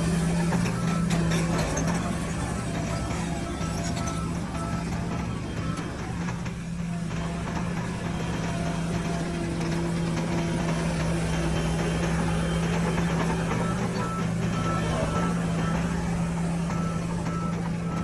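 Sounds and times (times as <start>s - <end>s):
diesel engine running: 0.0s - 18.0s
reversing alarm beeping: 0.0s - 18.0s.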